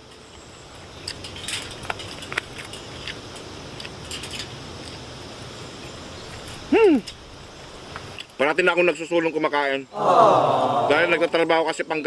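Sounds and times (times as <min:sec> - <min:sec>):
crickets buzzing: 0:00.0 - 0:10.0.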